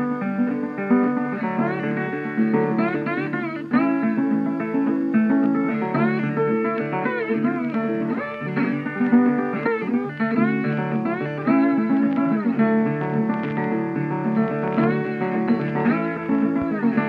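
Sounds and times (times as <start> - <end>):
blues guitar music: 0.0 - 17.0.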